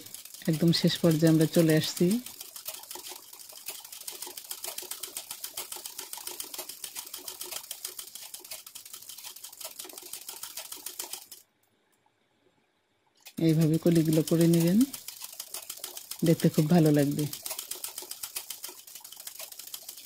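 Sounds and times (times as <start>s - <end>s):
sewing machine stitching: 0.0s - 11.4s, 13.2s - 20.0s.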